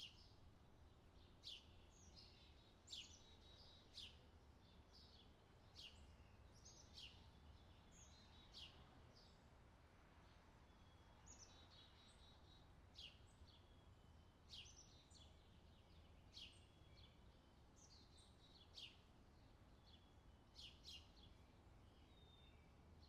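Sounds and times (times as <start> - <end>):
faint birdsong chirps: 0.0 - 23.0.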